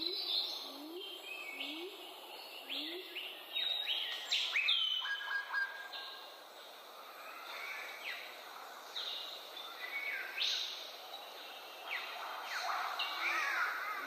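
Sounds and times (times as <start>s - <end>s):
birds calling: 0.0s - 14.0s
steady background hiss: 0.0s - 14.0s.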